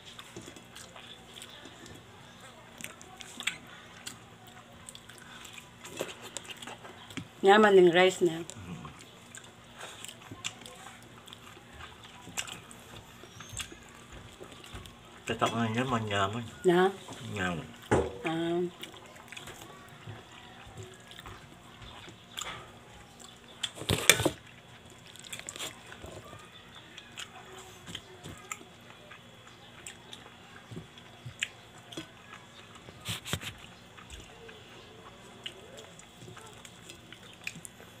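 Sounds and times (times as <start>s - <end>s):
person chewing: 0.0s - 7.3s, 8.5s - 16.5s, 18.7s - 38.0s.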